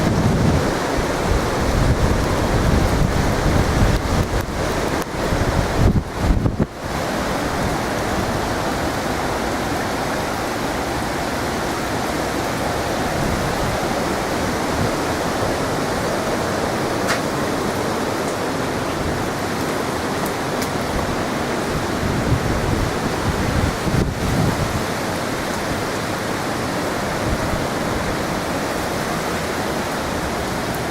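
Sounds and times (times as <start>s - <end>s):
wind gusts buffeting microphone: 0.0s - 29.3s
wind and rain rushing: 0.0s - 30.9s.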